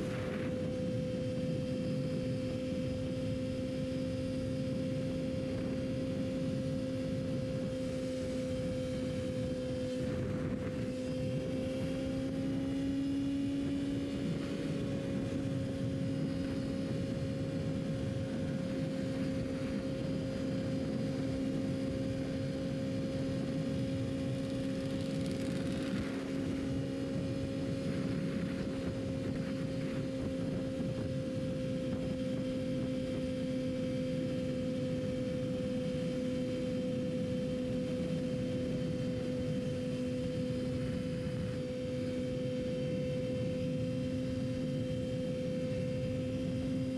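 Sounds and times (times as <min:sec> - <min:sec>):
motorcycle engine cruising: 0:00.0 - 0:46.9
wind and road noise: 0:00.0 - 0:46.9.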